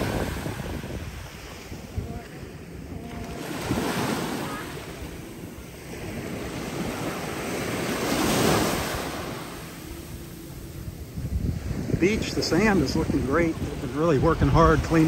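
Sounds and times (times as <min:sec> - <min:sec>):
small waves breaking on sand: 0:00.0 - 0:15.0
wind buffeting microphone: 0:00.0 - 0:15.0.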